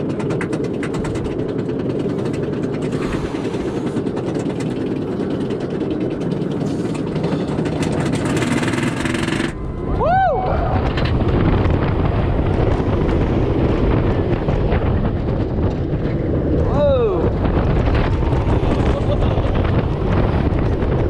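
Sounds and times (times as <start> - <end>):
roller coaster track rumble: 0.0 - 21.0
wind rushing over microphone: 0.0 - 21.0.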